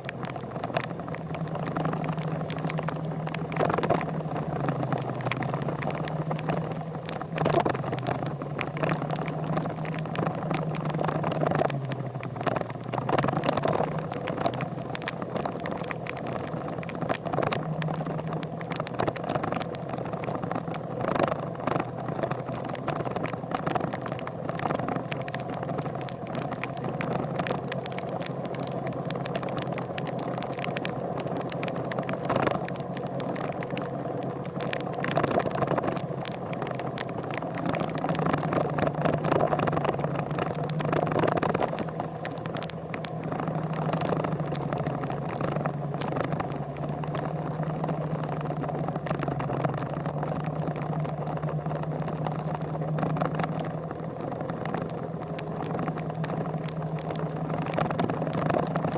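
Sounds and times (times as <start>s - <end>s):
steady rushing noise: 0.0s - 58.9s.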